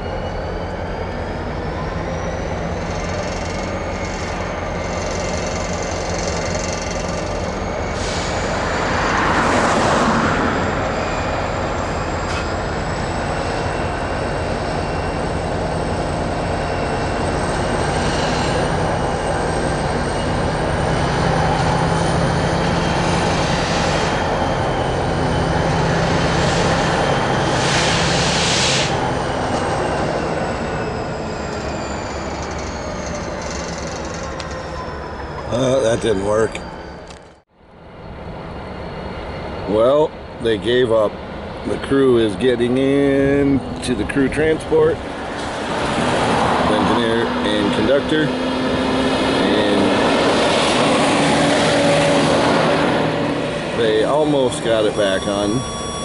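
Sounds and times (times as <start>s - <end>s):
wheels squealing: 0.0s - 37.4s, 40.9s - 56.0s
diesel locomotive engine running: 0.0s - 56.0s.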